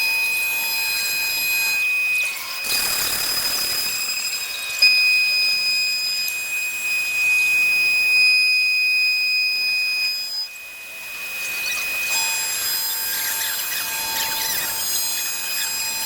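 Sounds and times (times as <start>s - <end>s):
machine high-pitched whine: 0.0s - 16.0s.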